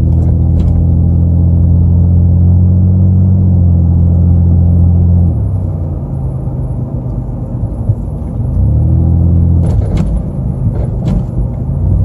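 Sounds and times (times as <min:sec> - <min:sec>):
engine and road drone inside vehicle: 0:00.0 - 0:12.0.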